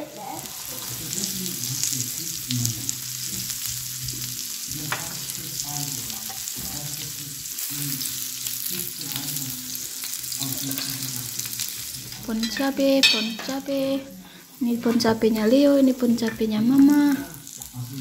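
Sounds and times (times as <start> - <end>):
meat sizzling on grill: 0.0 - 18.0.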